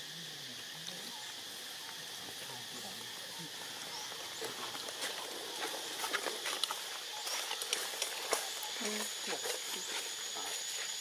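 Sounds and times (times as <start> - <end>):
faint monkey calls: 0.0 - 10.9
high-pitched insect drone: 0.0 - 11.0
rustling in dry leaves: 1.1 - 11.0.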